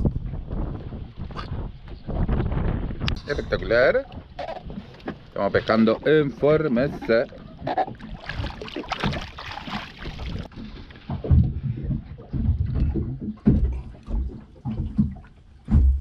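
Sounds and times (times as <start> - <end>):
water splashing against boat: 0.0 - 16.0.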